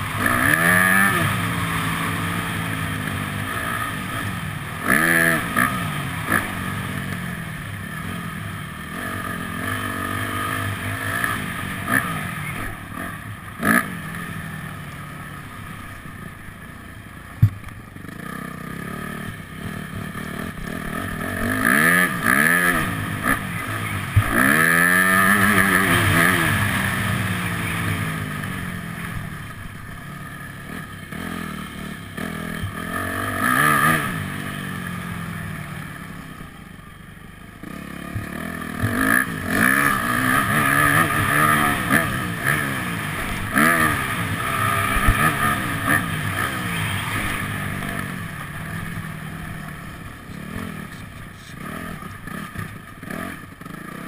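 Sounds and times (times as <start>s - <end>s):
motocross bike engine revving: 0.0s - 16.7s, 17.4s - 54.0s.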